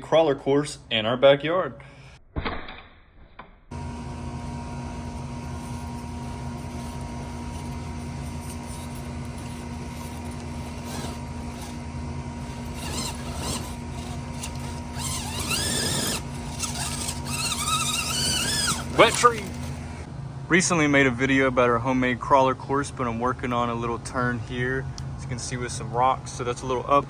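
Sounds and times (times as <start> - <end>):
steady mechanical hum: 3.7 - 27.0.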